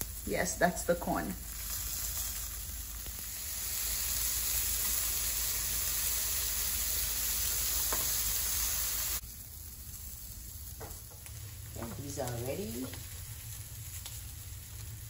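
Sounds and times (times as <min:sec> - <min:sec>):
vegetables sizzling on grill: 0:00.0 - 0:15.0.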